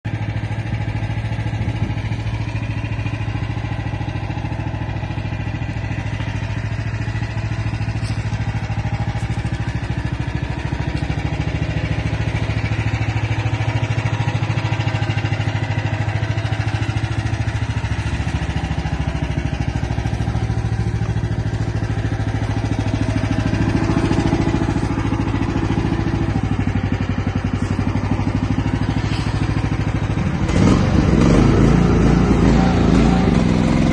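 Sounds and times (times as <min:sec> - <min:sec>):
small engine running: 0:00.1 - 0:33.9.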